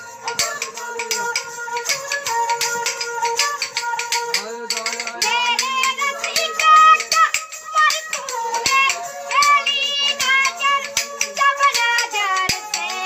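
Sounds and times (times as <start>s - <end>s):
bowed fiddle drone: 0.0s - 13.0s
boy singing: 0.0s - 13.0s
sharp rhythmic clicks: 0.2s - 13.0s.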